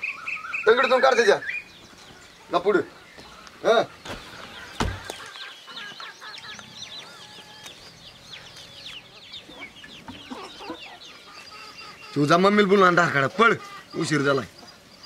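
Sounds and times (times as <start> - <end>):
hens clucking: 0.0 - 15.0
high bird chirps: 0.0 - 15.0.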